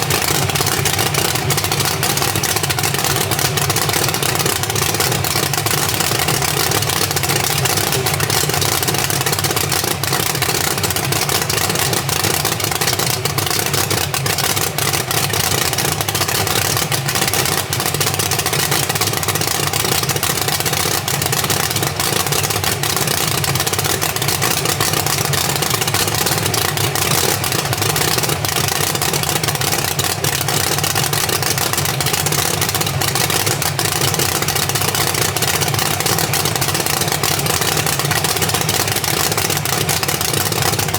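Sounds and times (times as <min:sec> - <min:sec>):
vehicle engine running steadily: 0:00.0 - 0:40.9.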